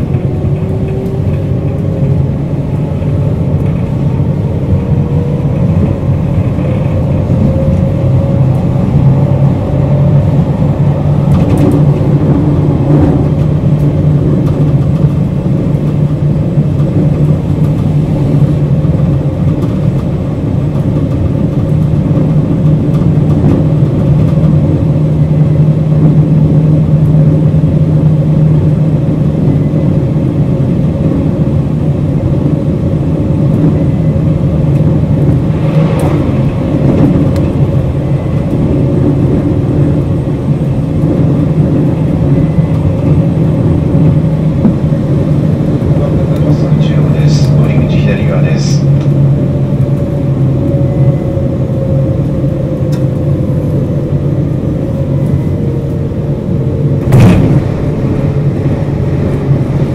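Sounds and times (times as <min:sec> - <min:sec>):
rushing noise: 0:00.0 - 0:59.9
train traction hum: 0:00.0 - 0:59.9
wheel-on-rail noise: 0:00.0 - 0:59.9.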